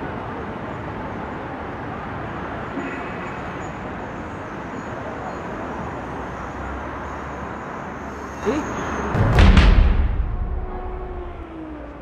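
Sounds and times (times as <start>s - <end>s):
city street traffic hum: 0.0s - 12.0s.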